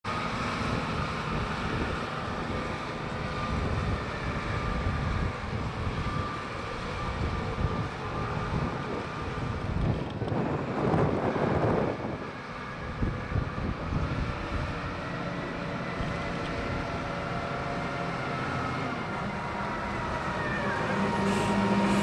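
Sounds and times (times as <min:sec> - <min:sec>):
forklift engine running: 0:00.1 - 0:22.0.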